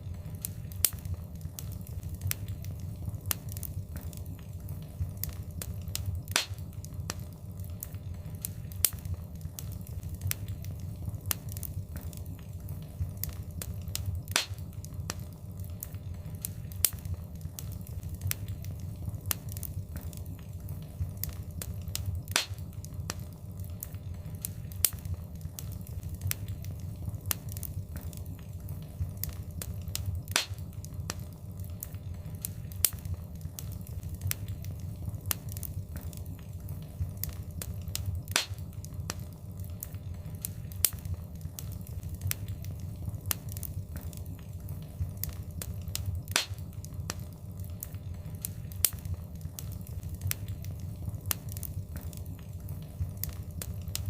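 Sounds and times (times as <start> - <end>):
wood fire crackling: 0.0 - 54.0
loud fire pops: 0.1 - 54.0.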